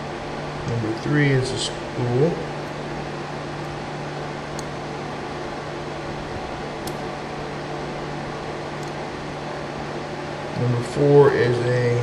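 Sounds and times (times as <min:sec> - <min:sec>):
fan hum and hiss: 0:00.0 - 0:12.0
low constant tone: 0:00.0 - 0:12.0.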